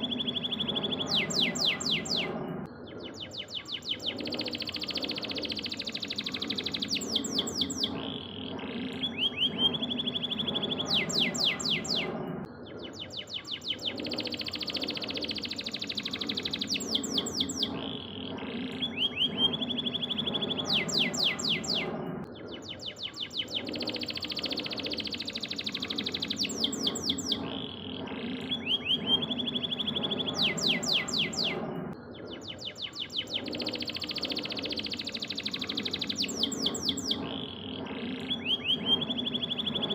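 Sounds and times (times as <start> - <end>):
canary singing trills: 0.0 - 39.9
steady low hum: 0.0 - 39.9.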